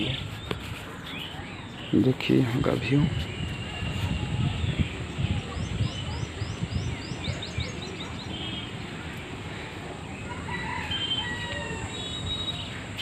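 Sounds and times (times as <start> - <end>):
birds calling: 0.0 - 13.0
wind rumble on microphone: 0.0 - 13.0.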